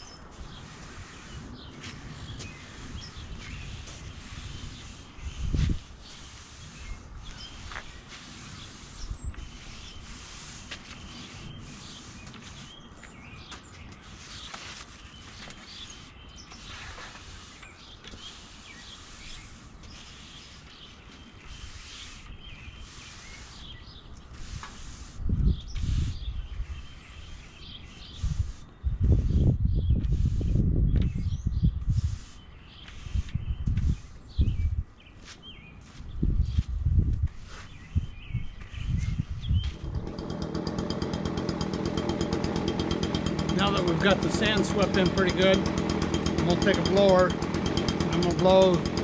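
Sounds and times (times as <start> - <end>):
birds chirping: 0.0 - 24.8, 25.4 - 36.7, 37.4 - 49.0
broom sweeping sand on bricks: 0.0 - 49.0.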